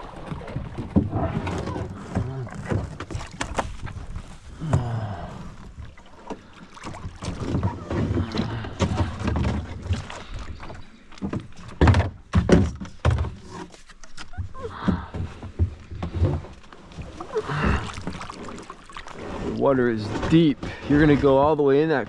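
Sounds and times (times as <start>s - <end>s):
paddle knocking against hull: 0.0s - 4.9s, 5.8s - 21.5s
paddle splashes: 0.0s - 21.9s.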